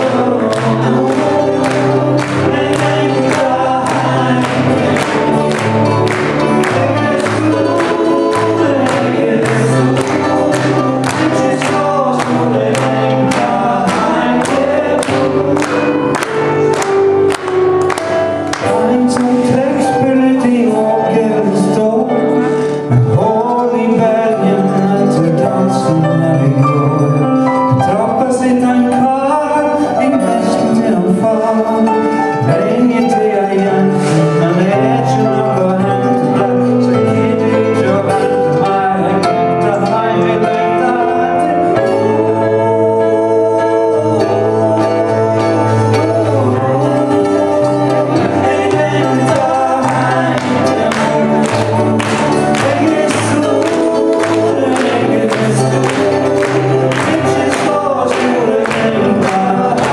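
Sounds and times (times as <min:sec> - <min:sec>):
acoustic guitars strumming: 0:00.0 - 0:59.9
person singing: 0:00.0 - 0:59.9
stage keyboard: 0:00.0 - 0:59.9.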